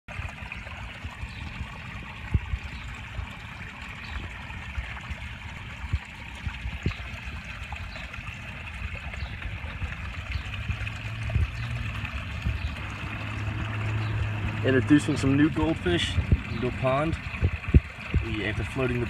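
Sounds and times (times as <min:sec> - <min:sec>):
water trickling: 0:00.1 - 0:19.0.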